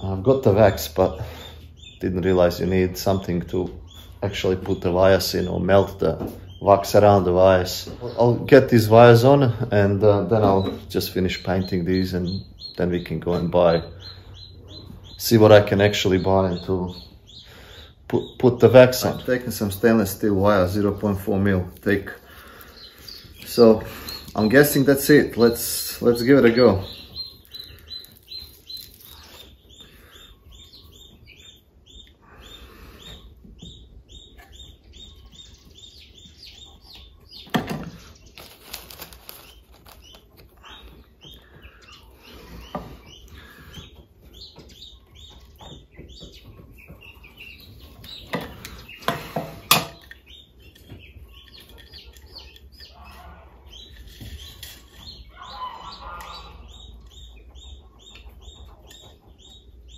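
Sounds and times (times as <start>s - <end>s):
small bird chirping: 0.0s - 59.9s.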